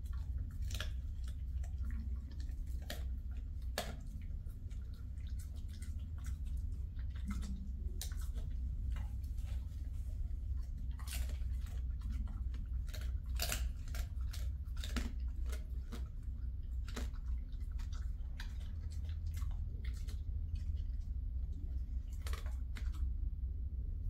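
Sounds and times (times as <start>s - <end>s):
dog crunching dry treat: 0.0s - 23.2s
low hum: 0.0s - 24.0s.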